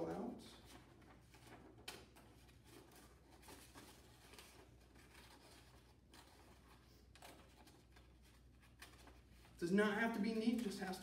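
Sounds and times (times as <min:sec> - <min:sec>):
low room hum: 0:00.0 - 0:11.0
paper rustling: 0:00.0 - 0:11.0.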